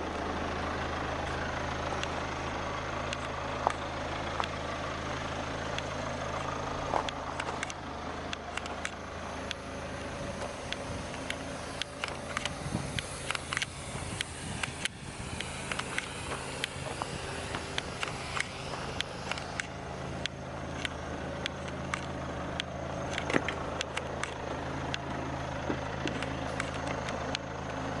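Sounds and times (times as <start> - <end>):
car engine idling: 0.0 - 28.0
irregular clicks and ticks: 3.1 - 3.8, 4.4 - 4.6, 5.7 - 27.5.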